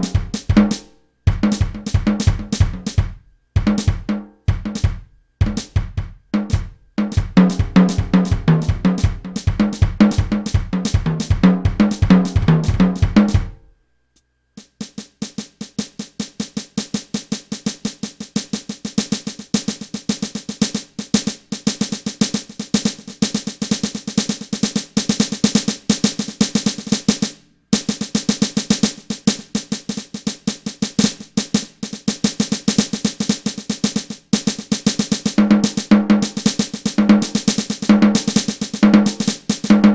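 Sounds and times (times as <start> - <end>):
fast snare rolls: 0.0 - 13.6, 14.6 - 39.9
kick drum and tom hits: 0.0 - 13.6, 14.8 - 39.9.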